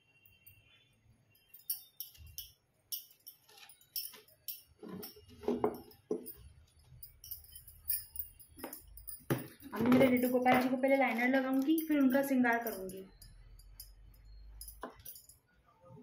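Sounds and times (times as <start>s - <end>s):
sequined dress rustling and jingling: 0.1s - 15.9s.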